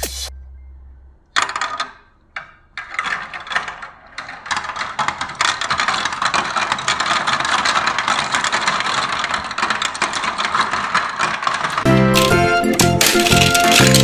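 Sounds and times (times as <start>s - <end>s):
plastic paddle wheel rattling: 1.4s - 14.0s.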